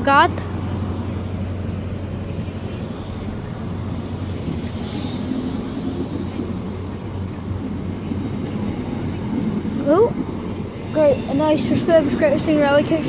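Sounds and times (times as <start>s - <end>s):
train diesel engines humming: 0.0s - 13.0s.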